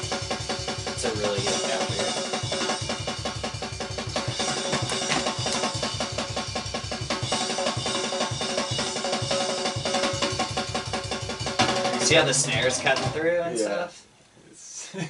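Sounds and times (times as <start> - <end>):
acoustic drum kit groove: 0.0 - 13.4.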